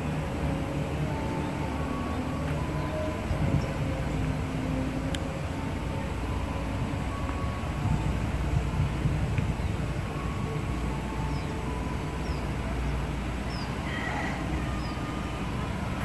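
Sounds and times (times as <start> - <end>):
distant locomotive rumble: 0.0 - 16.0
wind on microphone: 0.0 - 16.0.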